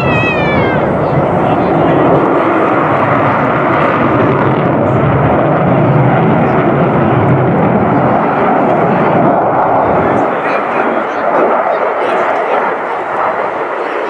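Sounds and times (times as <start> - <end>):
fighter jet roaring overhead: 0.0 - 14.0.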